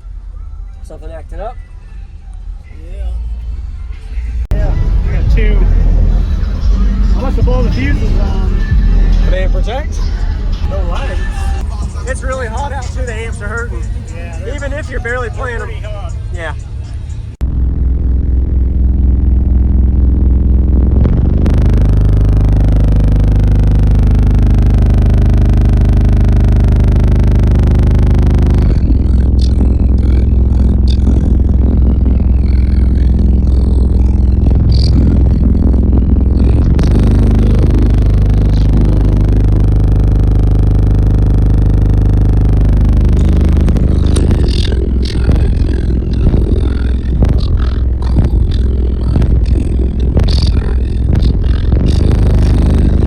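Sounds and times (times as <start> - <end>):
subwoofers playing deep bass note: 0.0 - 53.0.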